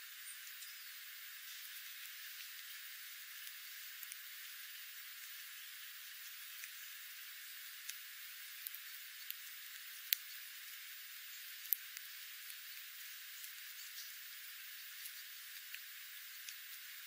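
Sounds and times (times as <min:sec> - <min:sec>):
steady hiss: 0:00.0 - 0:17.0
birds pecking at seed: 0:01.3 - 0:17.0.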